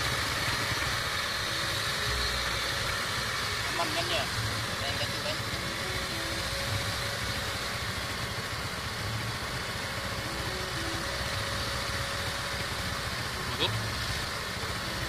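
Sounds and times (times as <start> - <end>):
excavator diesel engine running: 0.0 - 15.0
faint steady whine: 0.0 - 15.0.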